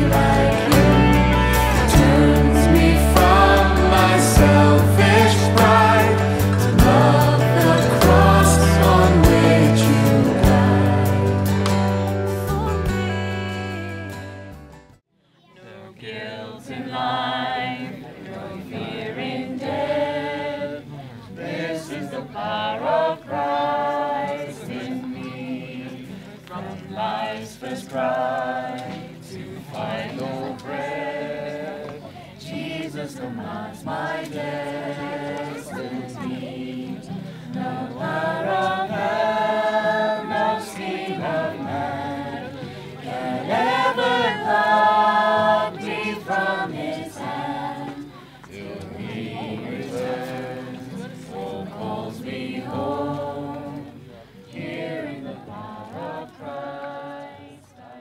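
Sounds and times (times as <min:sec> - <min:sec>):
group singing long notes: 0:00.0 - 0:13.2, 0:15.6 - 0:58.0.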